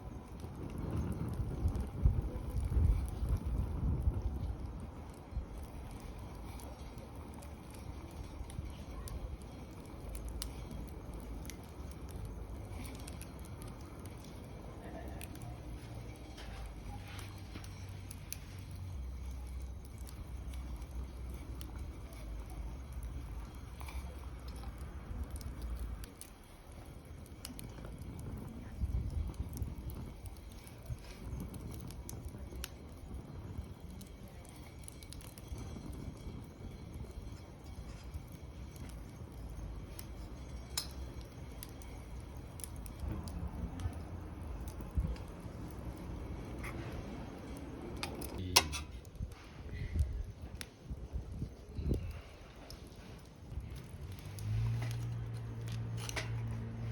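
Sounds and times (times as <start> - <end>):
low steady rumble: 0.0 - 56.9
wood fire crackling and popping: 0.0 - 56.9.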